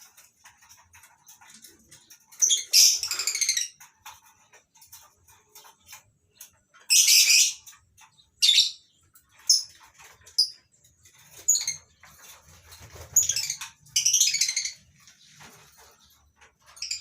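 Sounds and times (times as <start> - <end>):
birds chirping and screeching: 0.0 - 17.0.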